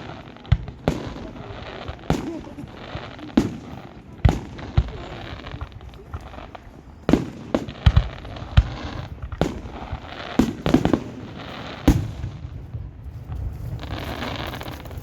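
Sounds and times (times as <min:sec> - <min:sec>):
fireworks bangs: 0:00.0 - 0:15.0
fireworks rumble: 0:00.0 - 0:15.0.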